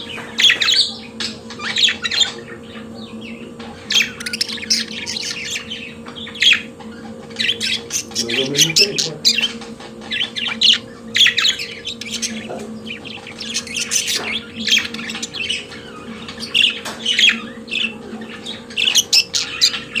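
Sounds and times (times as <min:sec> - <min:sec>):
budgerigars chirping and squawking: 0:00.0 - 0:20.0.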